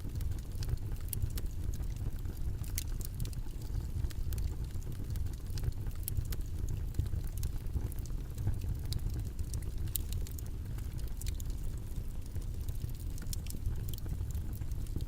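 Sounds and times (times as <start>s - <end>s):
faint crackles and clicks: 0.0s - 15.0s
low rumbling background noise: 0.0s - 15.0s.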